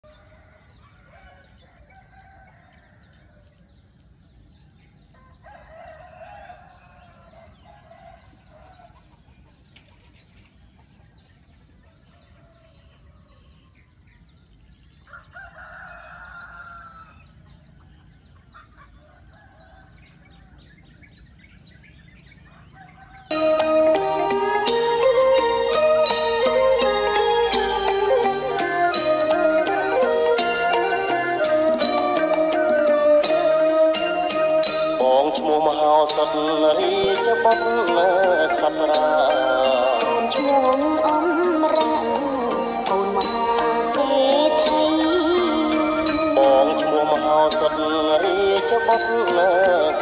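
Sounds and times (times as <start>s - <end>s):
roosters crowing: 0.0s - 3.6s, 5.1s - 9.3s, 15.0s - 17.4s, 18.2s - 21.0s, 22.2s - 50.0s
small birds chirping: 0.0s - 50.0s.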